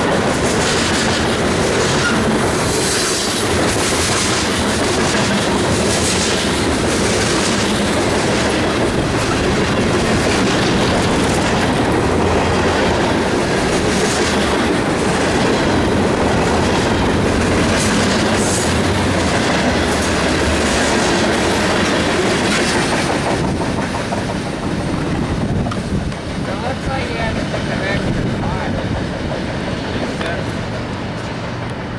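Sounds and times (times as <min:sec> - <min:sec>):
freight train cars rolling past: 0:00.0 - 0:31.9
wheels clacking over rail joints: 0:00.0 - 0:31.9.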